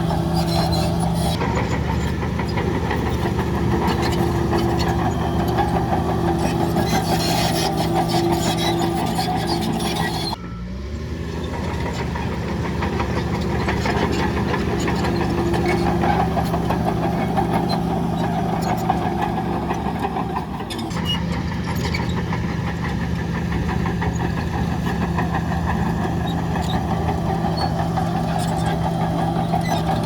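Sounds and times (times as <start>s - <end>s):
heavy diesel engine rattling: 0.0s - 30.0s.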